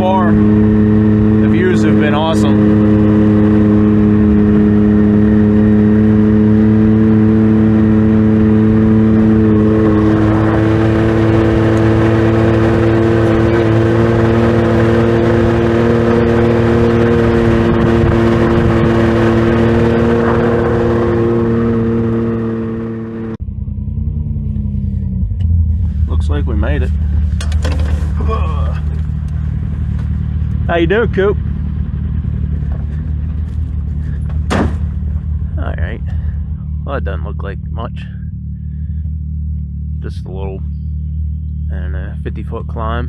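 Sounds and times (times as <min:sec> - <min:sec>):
utility vehicle engine droning: 0:00.0 - 0:43.0.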